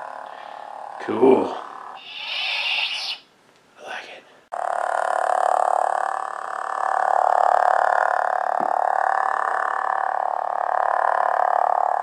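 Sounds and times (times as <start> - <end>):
toy lightsaber buzzing hum: 0.0 - 3.2, 4.6 - 12.0.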